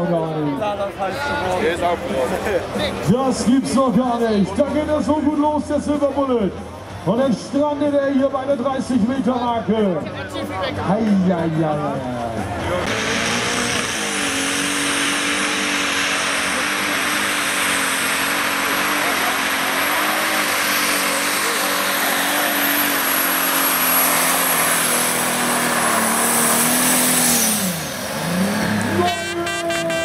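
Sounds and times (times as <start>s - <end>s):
tractor engine at full load: 0.0s - 30.0s.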